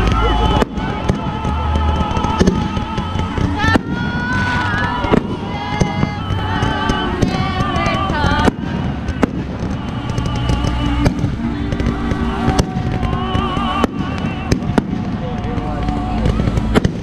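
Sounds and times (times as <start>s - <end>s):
firework hissing and crackling: 0.0s - 17.0s
music: 0.0s - 17.0s.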